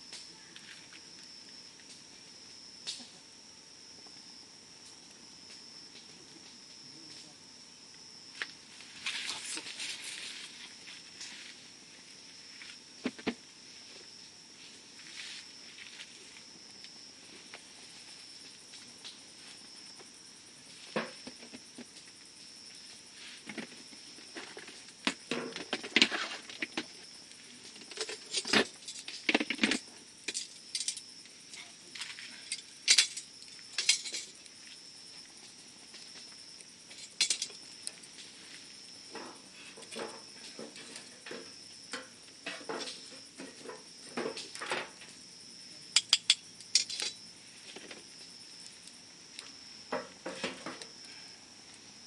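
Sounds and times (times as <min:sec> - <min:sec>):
campfire crackling and popping: 0:00.0 - 0:09.9, 0:10.5 - 0:51.1.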